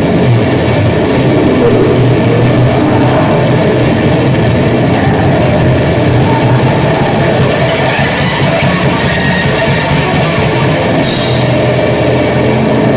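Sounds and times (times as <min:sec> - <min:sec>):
distorted guitar: 0:00.0 - 0:12.9
drums: 0:00.0 - 0:12.9.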